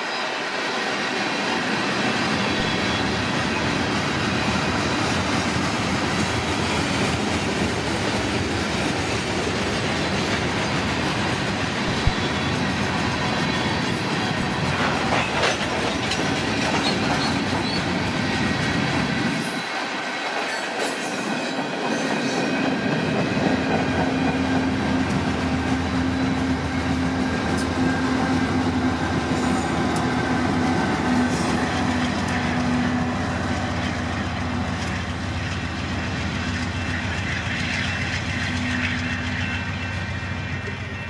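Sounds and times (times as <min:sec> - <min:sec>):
diesel locomotive engine hum: 0:00.0 - 0:41.0
train wheels clicking on rails: 0:00.0 - 0:41.0.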